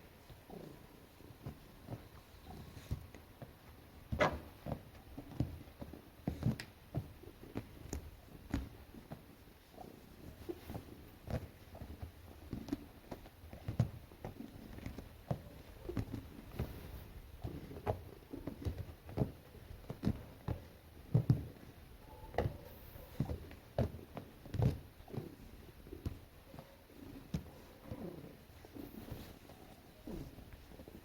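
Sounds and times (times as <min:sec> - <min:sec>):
soft thumps and rubbing: 0:00.2 - 0:21.7, 0:22.3 - 0:31.0.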